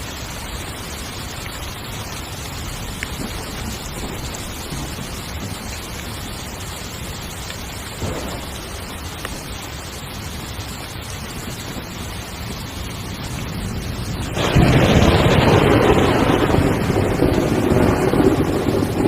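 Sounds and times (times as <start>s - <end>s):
heavy rain drumming on a tent: 0.0s - 19.0s.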